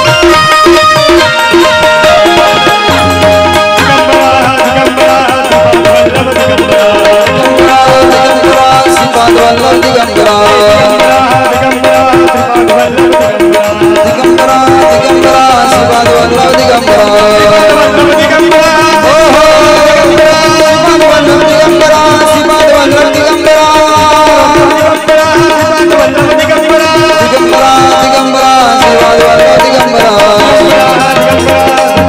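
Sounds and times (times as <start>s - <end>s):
devotional melody: 0.0s - 32.0s
hand drum beat: 0.0s - 32.0s.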